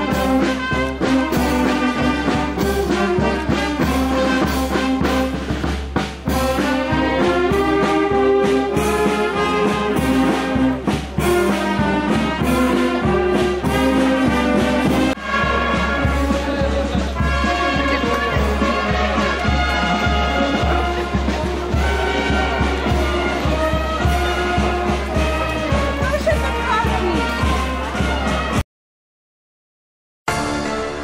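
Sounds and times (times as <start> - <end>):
brass band music: 0.0 - 28.6, 30.3 - 31.0.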